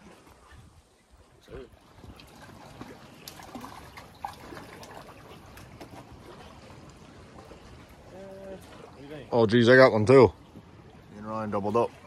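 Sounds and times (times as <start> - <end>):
water lapping and trickling: 0.0 - 12.0.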